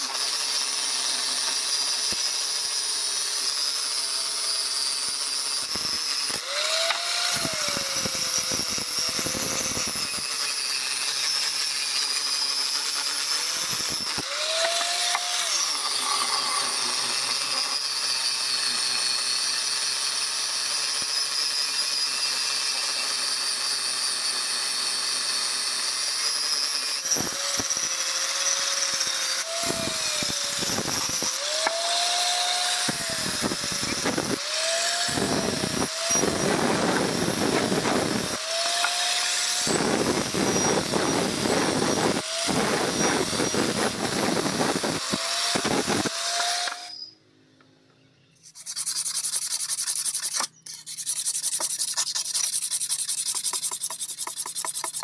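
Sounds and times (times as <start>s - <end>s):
angle grinder grinding metal: 0.0s - 47.1s, 48.4s - 55.0s.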